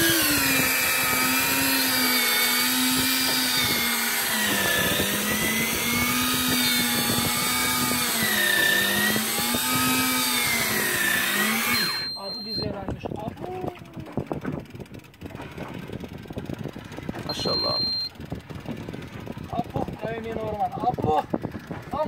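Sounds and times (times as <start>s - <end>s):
fishing reel motor whine: 0.0s - 21.7s.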